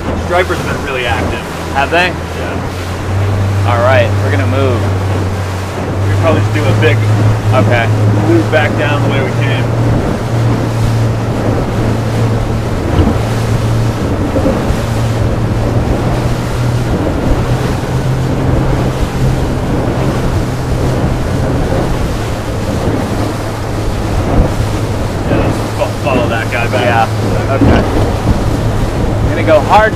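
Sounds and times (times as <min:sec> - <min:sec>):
steady low hum: 0:00.0 - 0:29.9
water splashing along boat hull: 0:00.0 - 0:29.9
wind buffeting microphone: 0:00.0 - 0:29.9.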